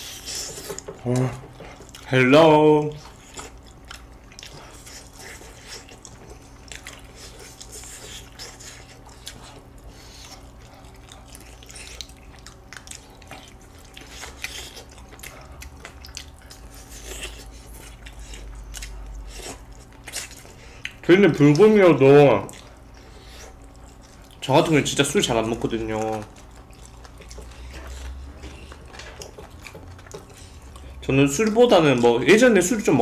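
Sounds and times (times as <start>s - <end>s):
people chewing and smacking: 0.0s - 33.0s.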